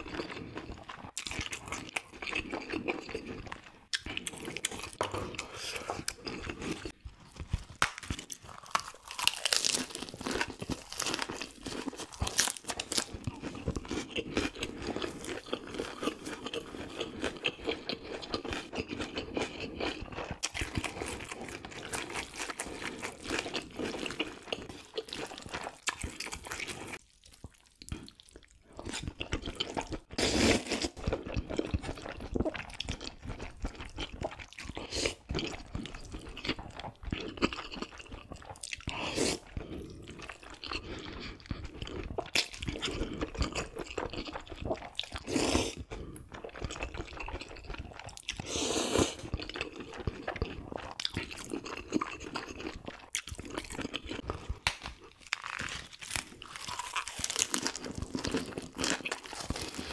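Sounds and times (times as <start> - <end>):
slurping and chewing noodles: 0.0 - 59.9.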